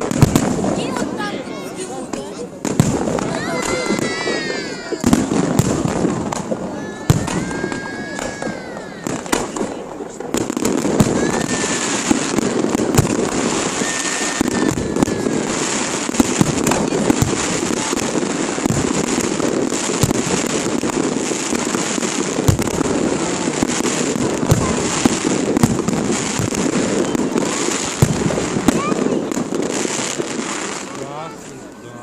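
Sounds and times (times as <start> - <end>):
sharp firework bangs: 0.0 - 31.8
fireworks crackling and popping: 0.0 - 32.0.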